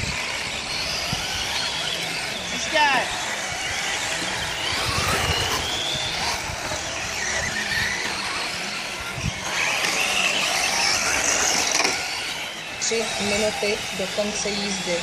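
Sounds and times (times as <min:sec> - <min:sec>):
model car motors whining: 0:00.0 - 0:15.0.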